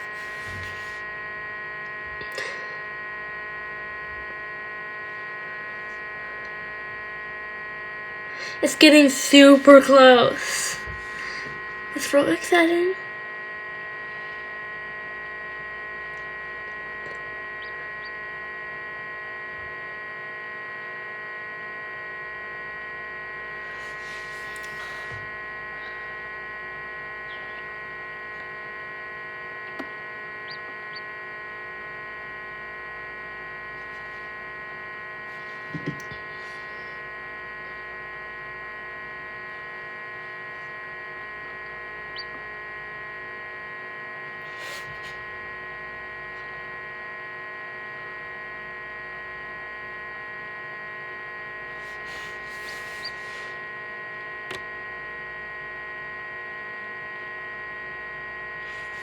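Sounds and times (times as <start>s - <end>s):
incubator electrical hum: 0.0s - 59.0s.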